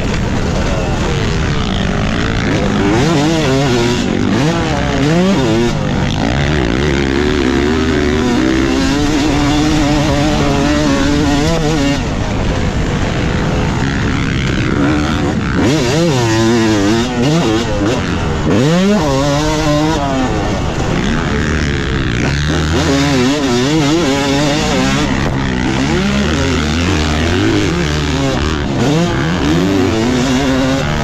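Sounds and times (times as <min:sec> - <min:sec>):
motocross engine revving: 0:00.0 - 0:31.0.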